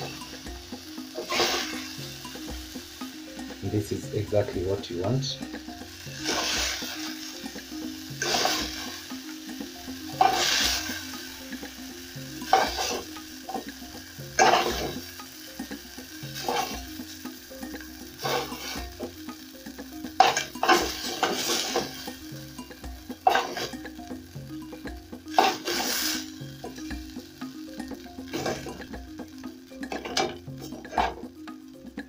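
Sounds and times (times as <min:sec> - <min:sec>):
meat sizzling in a pot: 0:00.0 - 0:32.0.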